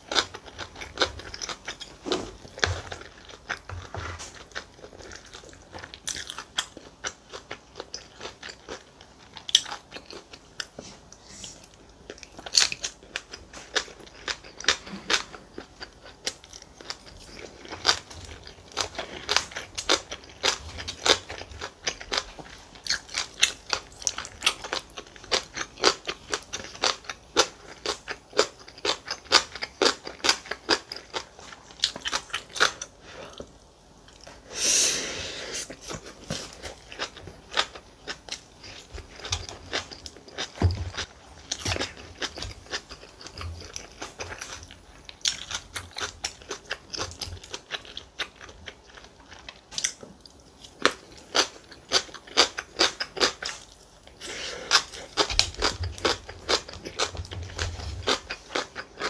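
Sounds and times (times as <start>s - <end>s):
chewing and crunching food: 0.0s - 34.5s, 35.6s - 59.0s.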